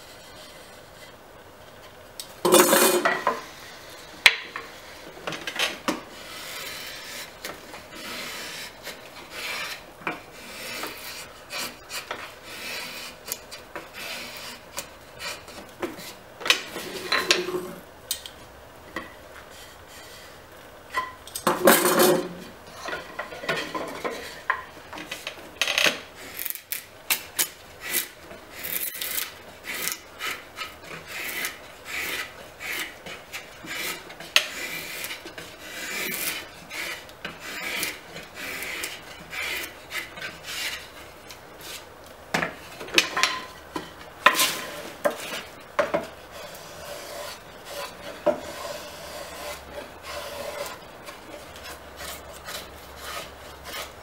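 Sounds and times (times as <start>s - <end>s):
drawknife scraping wood: 2.4s - 17.8s, 19.0s - 54.0s.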